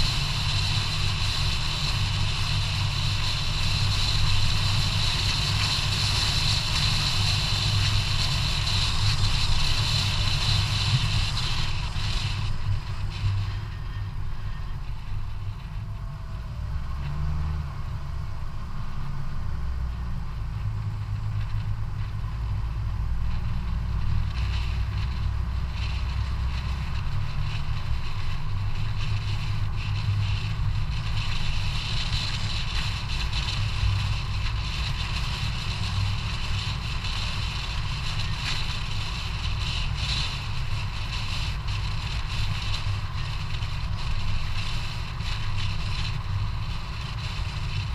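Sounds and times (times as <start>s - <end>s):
bicycle tyre and road noise: 0.0s - 47.9s
wind rushing over microphone: 0.0s - 47.9s.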